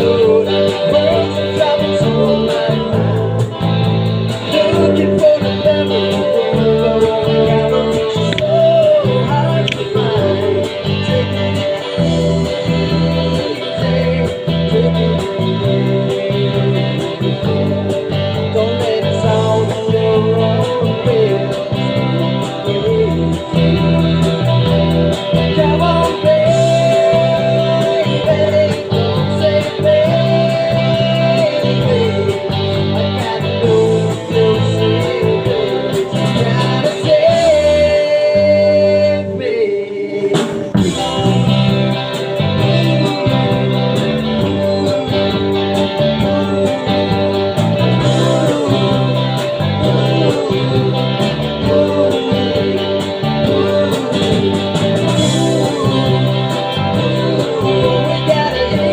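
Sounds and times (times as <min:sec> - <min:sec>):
rock band playing: 0:00.0 - 0:58.9.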